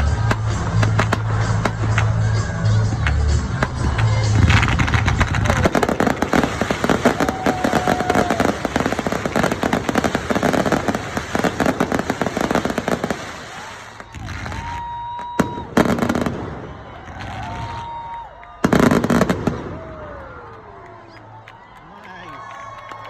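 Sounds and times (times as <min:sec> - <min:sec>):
fireworks whistles: 0:00.0 - 0:20.0
fireworks bangs: 0:00.0 - 0:21.2
fireworks crackling: 0:00.0 - 0:21.7.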